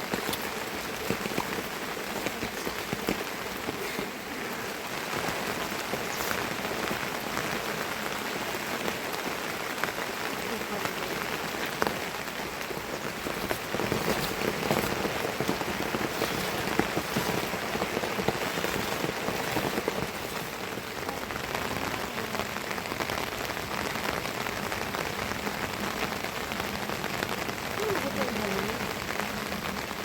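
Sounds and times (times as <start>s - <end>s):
raindrops ticking: 0.0s - 30.0s
steady rain falling: 0.0s - 30.0s.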